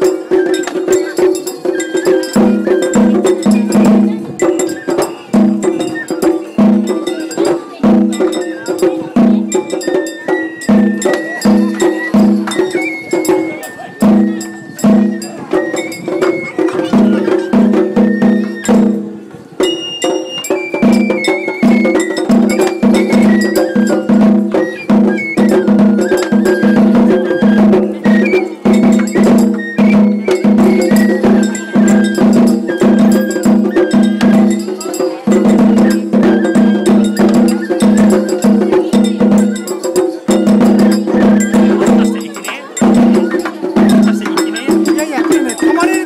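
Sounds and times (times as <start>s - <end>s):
barrel drum beating: 0.0s - 46.0s
high bamboo flute melody: 0.0s - 46.0s.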